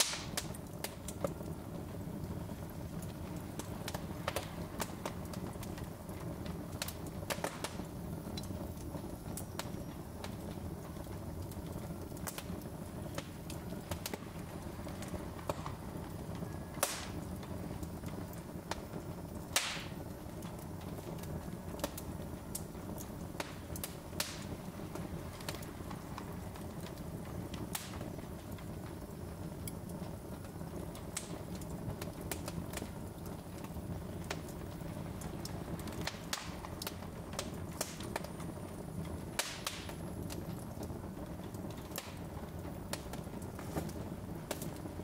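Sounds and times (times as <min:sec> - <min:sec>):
burning logs popping and snapping: 0:00.0 - 0:45.0
low rush of flame: 0:00.0 - 0:45.0.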